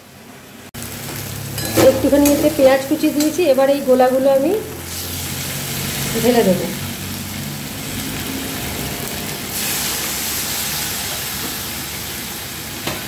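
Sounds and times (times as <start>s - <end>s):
frying in a wok: 0.0s - 13.0s
loud hissing sizzle: 0.0s - 13.0s.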